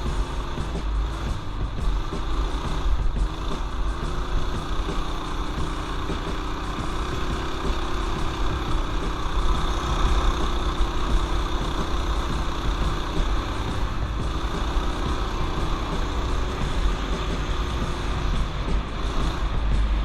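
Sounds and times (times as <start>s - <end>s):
small motorbike engine running: 0.0s - 20.0s.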